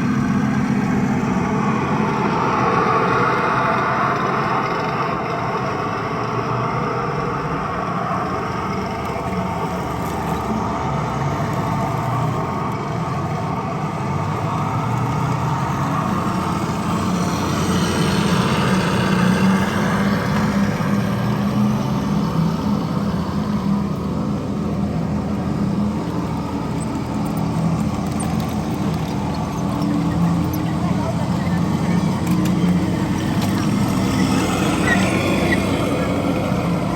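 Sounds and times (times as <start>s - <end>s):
model tank engine running: 0.0s - 36.9s.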